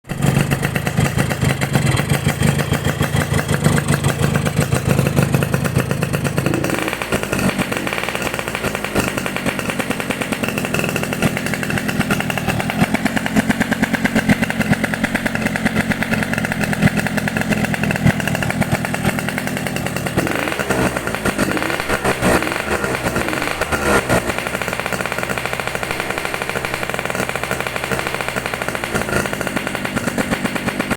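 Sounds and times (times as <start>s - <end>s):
two-stroke engine firing rattle: 0.1s - 30.9s.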